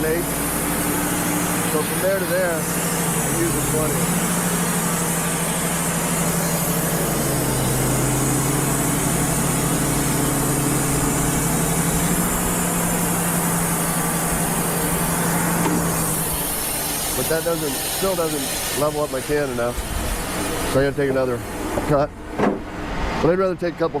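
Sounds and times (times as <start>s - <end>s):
sawmill diesel engine running: 0.0s - 24.0s.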